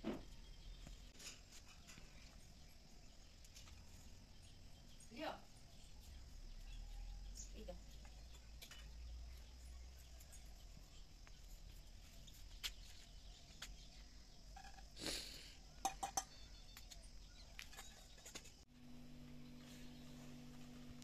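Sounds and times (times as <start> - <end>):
steady low hum: 0.6 - 21.0.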